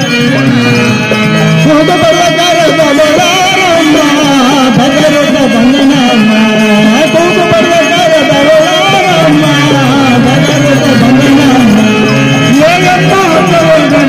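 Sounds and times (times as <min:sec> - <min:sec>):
amplified live stage music: 0:00.0 - 0:14.0.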